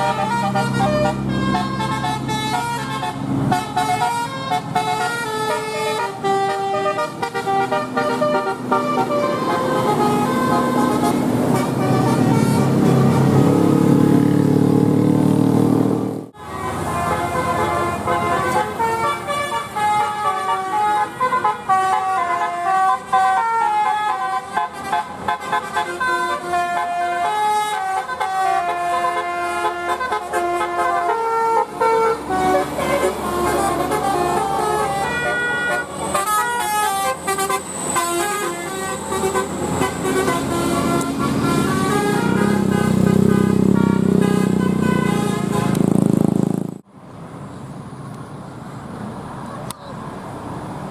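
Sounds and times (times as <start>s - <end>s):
multi-trumpet air horn tunes: 0.0s - 13.5s, 16.4s - 45.8s.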